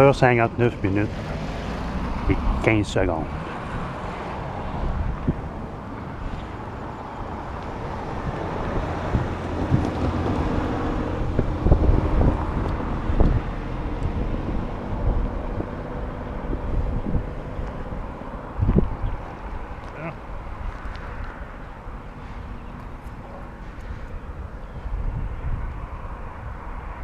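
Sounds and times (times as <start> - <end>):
low vehicle rumble: 0.0 - 27.0
steady engine hum: 0.0 - 27.0
wind buffeting microphone: 0.0 - 27.0.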